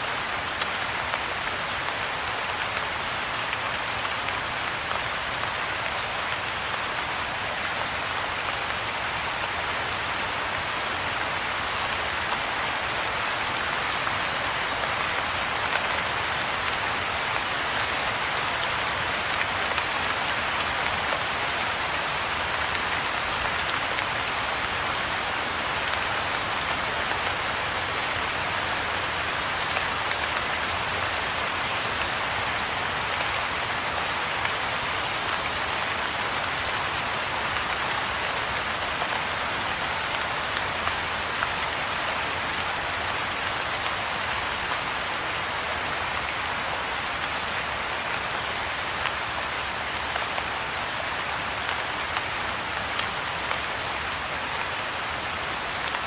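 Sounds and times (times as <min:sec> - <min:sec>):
rain falling on pond: 0:00.0 - 0:56.0.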